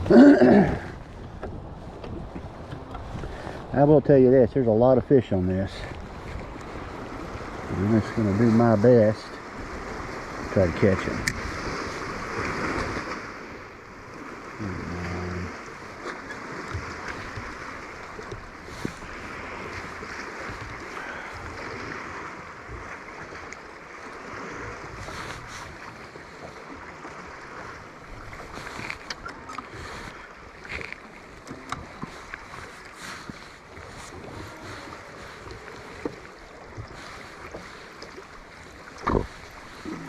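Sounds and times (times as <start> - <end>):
water noise around boat: 0.0 - 40.0
wind: 0.0 - 40.0.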